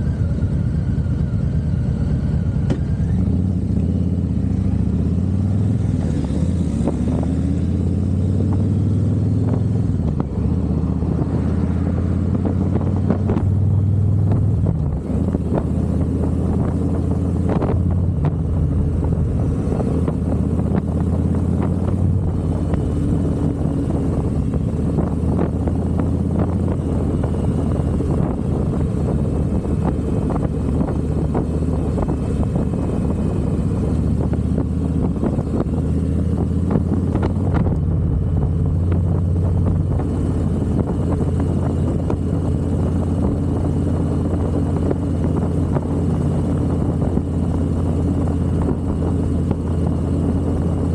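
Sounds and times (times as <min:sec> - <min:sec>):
motorcycle engine running: 0:00.0 - 0:50.9
road and wind noise: 0:00.0 - 0:50.9.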